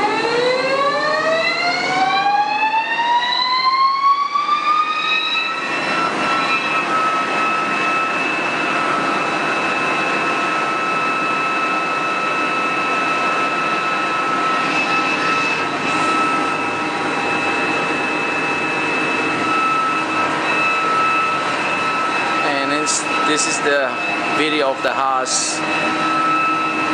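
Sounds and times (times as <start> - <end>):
lathe spindle whining: 0.0 - 26.9.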